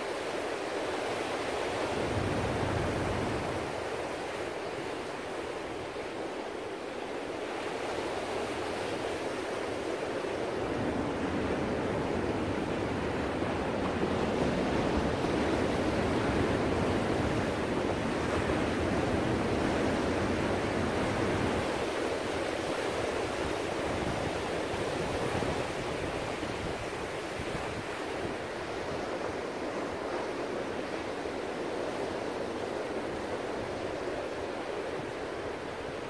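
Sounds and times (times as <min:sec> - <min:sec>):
waves breaking on a beach: 0:00.0 - 0:36.0.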